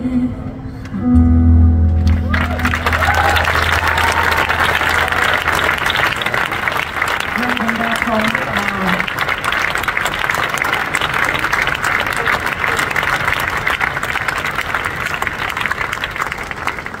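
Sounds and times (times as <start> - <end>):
large crowd applauding: 2.0 - 17.0.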